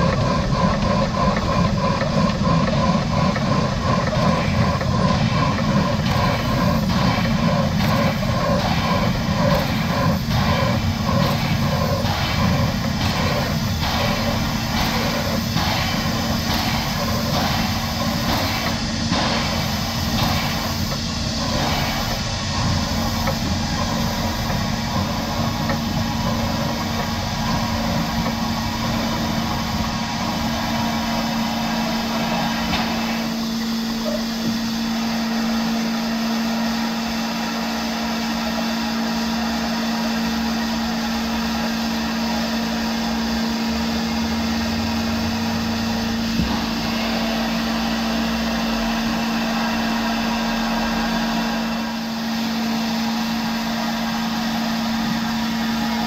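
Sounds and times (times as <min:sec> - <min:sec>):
steam locomotive running slowly: 0:00.0 - 0:56.0.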